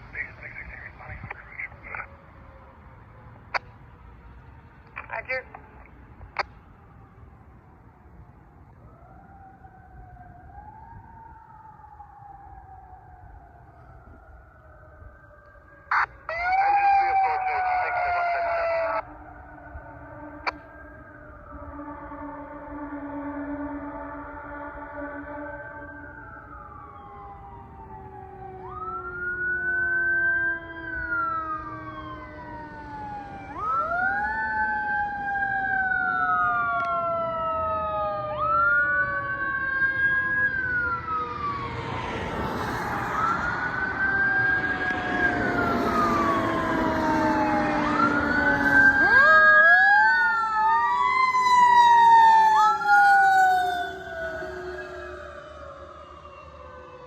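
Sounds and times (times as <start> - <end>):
electronic siren wail: 8.8 - 57.0.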